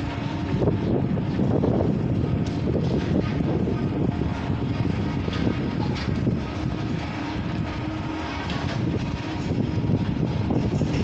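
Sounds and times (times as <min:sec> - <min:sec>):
machine engine rumbling: 0:00.0 - 0:11.0.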